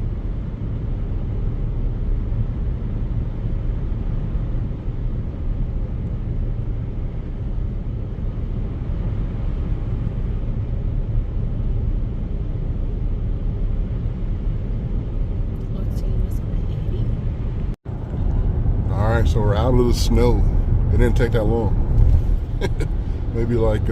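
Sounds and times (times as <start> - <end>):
car road and engine rumble: 0.0 - 23.9.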